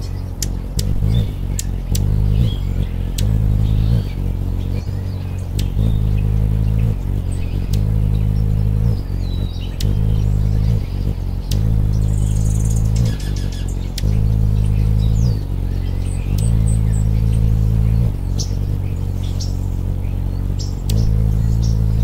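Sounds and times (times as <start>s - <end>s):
sharp clicks: 0.0s - 4.7s, 5.4s - 15.4s, 16.1s - 19.5s, 20.6s - 21.9s
faint bird chirps: 0.0s - 22.0s
hummingbird wingbeat hum: 0.0s - 22.0s.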